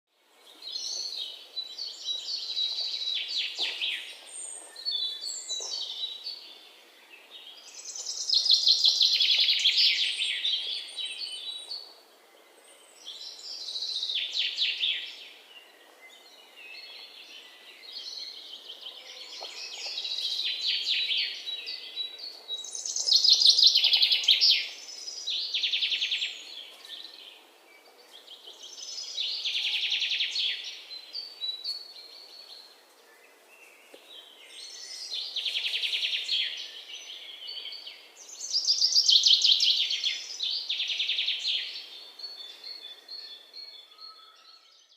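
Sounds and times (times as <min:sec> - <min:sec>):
songbirds chirping: 0:00.1 - 0:44.9.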